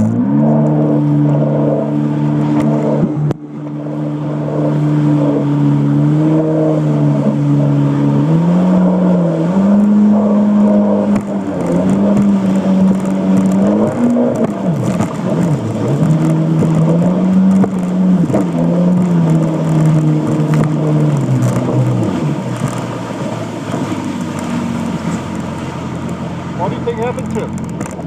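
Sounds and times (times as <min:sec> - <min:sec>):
jet ski engine running: 0:00.0 - 0:28.0.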